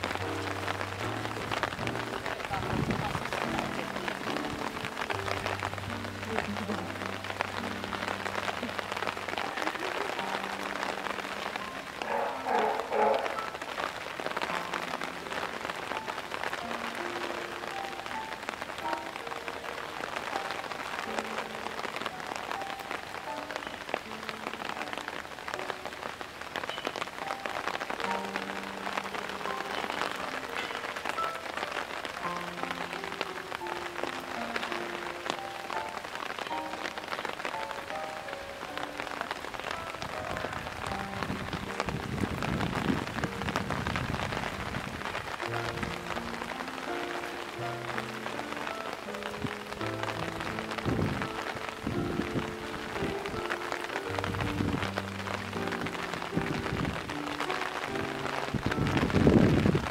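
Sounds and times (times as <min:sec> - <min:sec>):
heavy rain on water and rock: 0:00.0 - 0:59.9
soft background music: 0:00.0 - 0:59.9.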